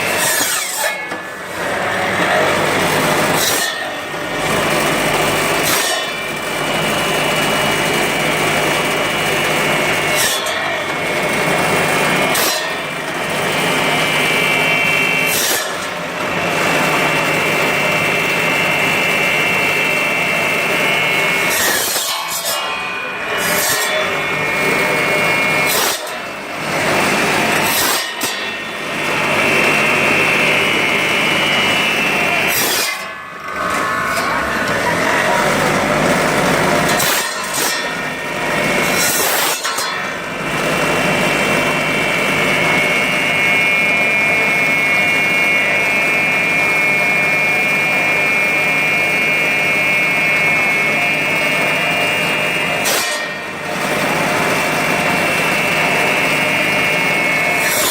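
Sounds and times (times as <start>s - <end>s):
bone saw whining and rasping: 0.0s - 57.9s.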